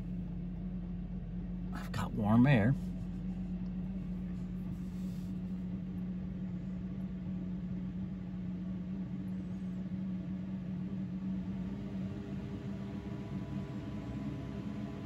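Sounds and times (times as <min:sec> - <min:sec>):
heater blower fan hum: 0:00.0 - 0:15.0.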